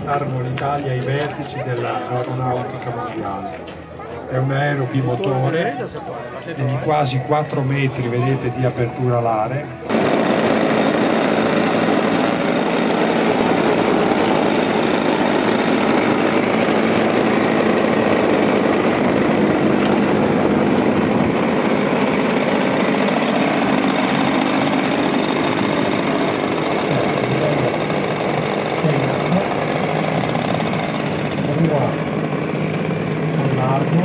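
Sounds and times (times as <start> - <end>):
model plane engines running: 0.0 - 34.0.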